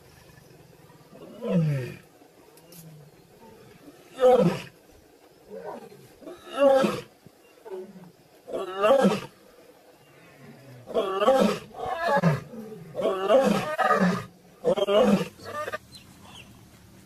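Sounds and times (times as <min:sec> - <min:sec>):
lions growling and snarling: 0:00.0 - 0:15.8.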